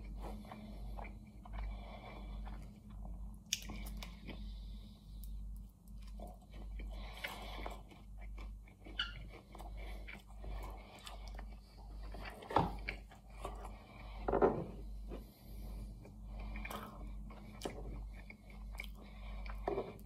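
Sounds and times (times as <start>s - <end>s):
close chewing food: 0.0s - 20.0s.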